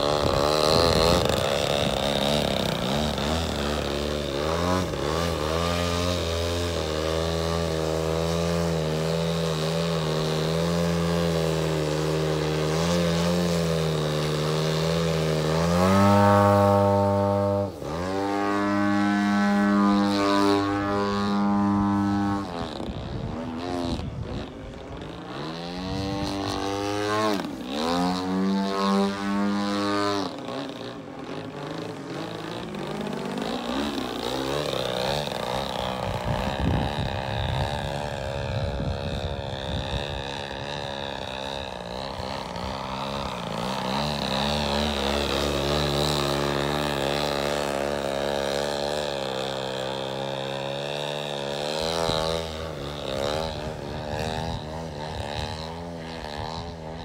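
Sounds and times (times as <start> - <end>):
model airplane motor droning: 0.0 - 57.0.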